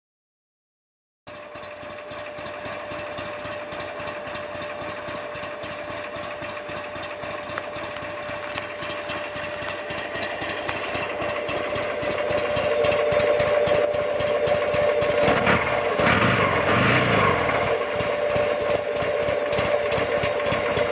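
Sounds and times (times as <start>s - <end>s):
motorcycle engine idling: 1.3s - 20.9s.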